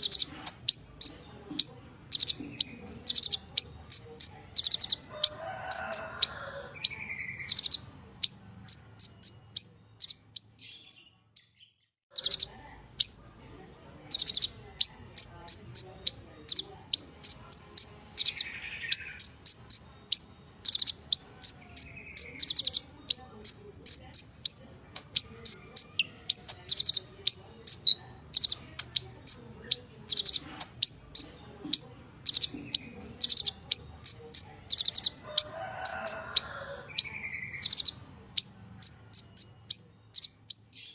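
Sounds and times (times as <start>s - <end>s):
sunbird singing sharp chirps: 6.8s - 13.2s, 14.1s - 40.9s.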